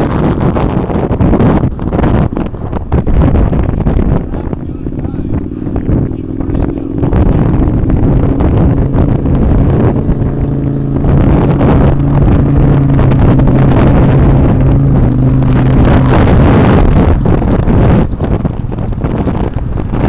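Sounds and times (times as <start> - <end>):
wind noise on microphone: 0.0 - 20.0
truck engine running under load: 1.2 - 20.0.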